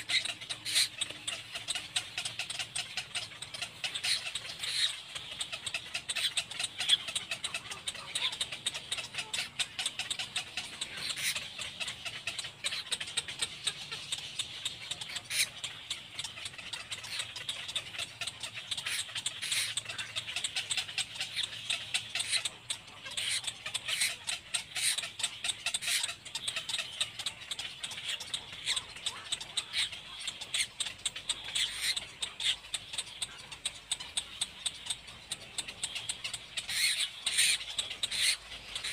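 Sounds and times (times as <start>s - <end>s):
bird chick chattering calls: 0.0s - 38.9s.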